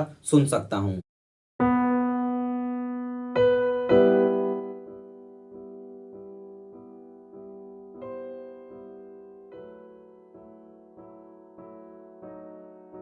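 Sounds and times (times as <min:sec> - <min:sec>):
gentle solo piano: 0:01.6 - 0:13.0.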